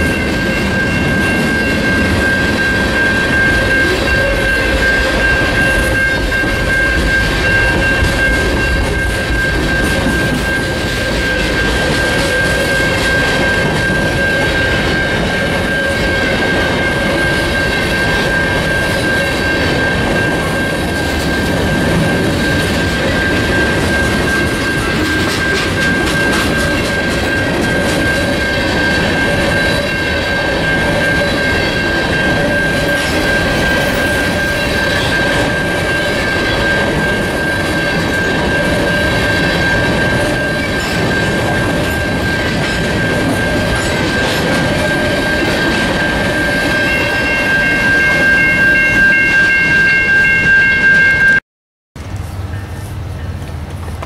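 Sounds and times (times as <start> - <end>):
train wheels rumbling and rattling: 0.0 - 51.4, 52.0 - 54.0.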